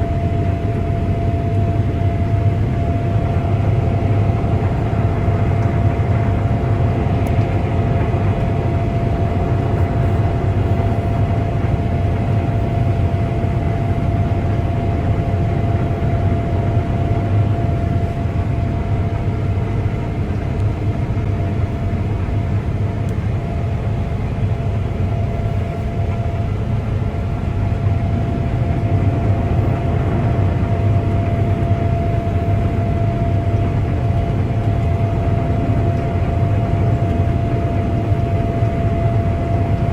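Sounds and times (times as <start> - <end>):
combine harvester engine rumble: 0.0 - 39.9
steady machine whine: 0.0 - 39.9.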